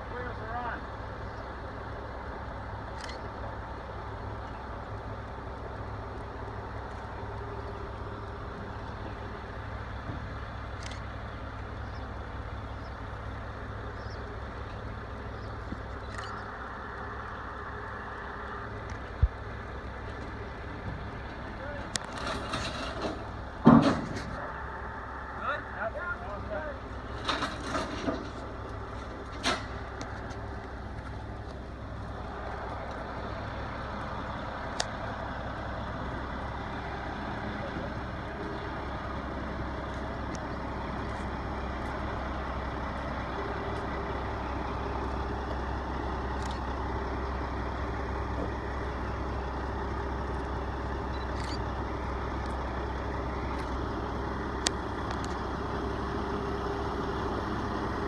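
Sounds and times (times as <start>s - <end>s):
heavy engine rumbling: 0.0s - 58.0s.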